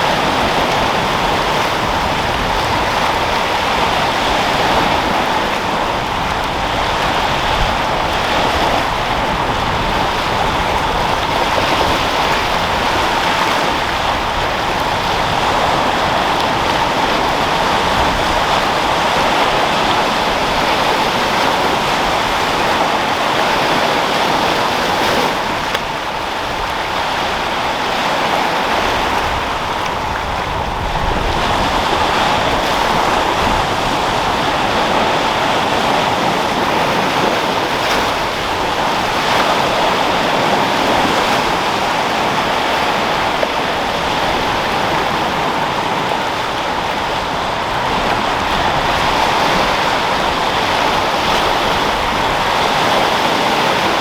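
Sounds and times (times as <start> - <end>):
sea surf washing: 0.0 - 54.0
wind: 0.0 - 54.0.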